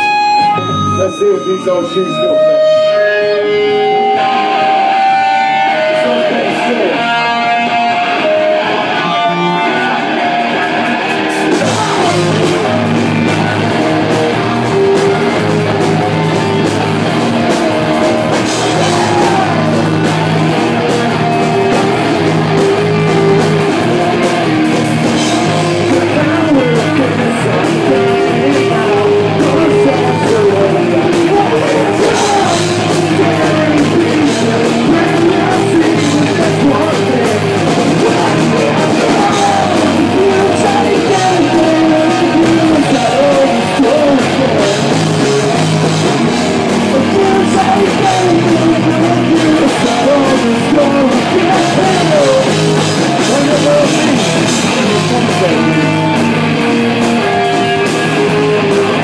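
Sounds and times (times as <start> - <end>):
bass guitar: 0.0 - 59.0
drums: 0.0 - 59.0
electric guitar: 0.0 - 59.0
live rock band playing: 0.0 - 59.0
vocals: 0.0 - 59.0.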